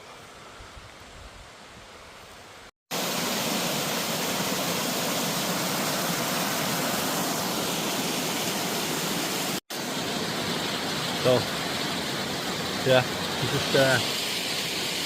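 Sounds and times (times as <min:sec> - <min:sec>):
rushing water hiss: 0:02.2 - 0:15.0.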